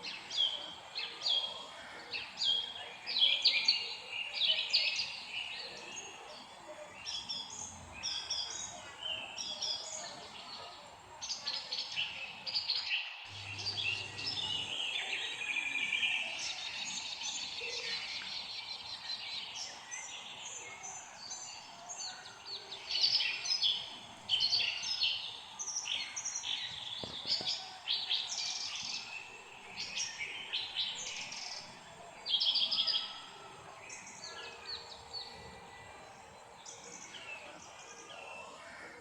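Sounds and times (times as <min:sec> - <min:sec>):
songbirds chirping and singing: 0:00.0 - 0:39.0.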